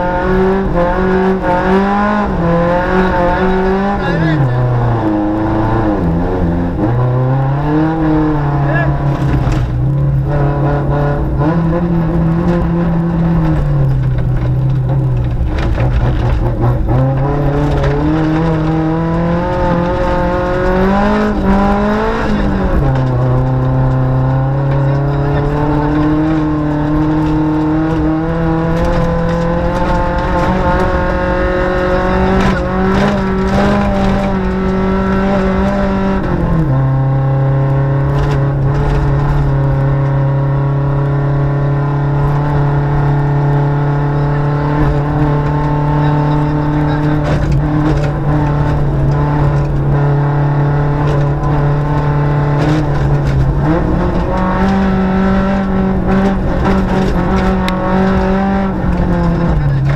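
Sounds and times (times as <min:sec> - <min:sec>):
rally car engine from inside: 0:00.0 - 0:59.9
road and tyre noise: 0:00.0 - 0:59.9.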